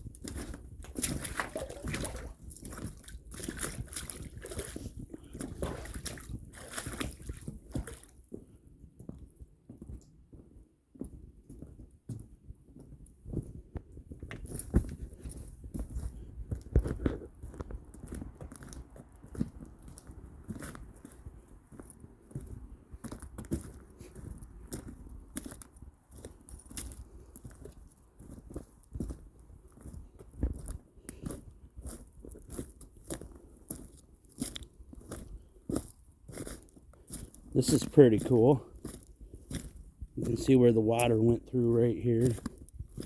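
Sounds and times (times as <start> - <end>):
footsteps crunching on stones: 0.0 - 8.4, 13.4 - 43.0.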